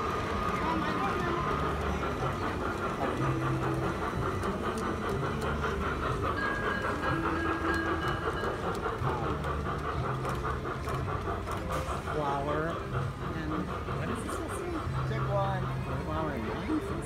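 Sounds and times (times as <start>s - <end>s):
model train clattering on track: 0.0s - 17.0s.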